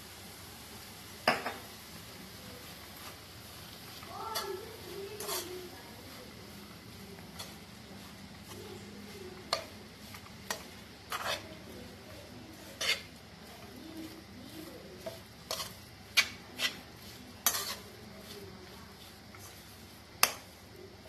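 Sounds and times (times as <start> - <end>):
spoon scraping cooking pan: 3.9 - 21.0.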